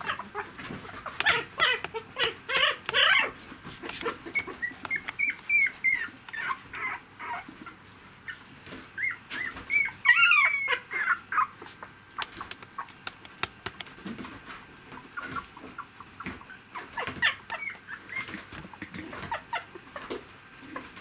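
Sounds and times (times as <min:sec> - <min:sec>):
puppies whimpering and squeaking: 0:00.0 - 0:13.0, 0:14.9 - 0:21.0.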